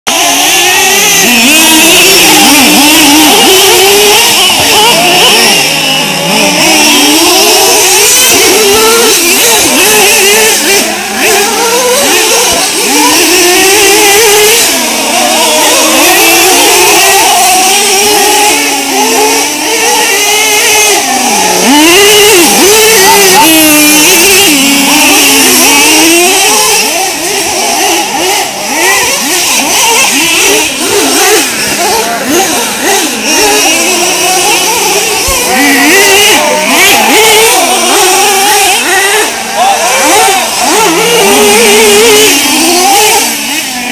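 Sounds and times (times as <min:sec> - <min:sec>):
small engines whining and revving: 0:00.0 - 0:43.9.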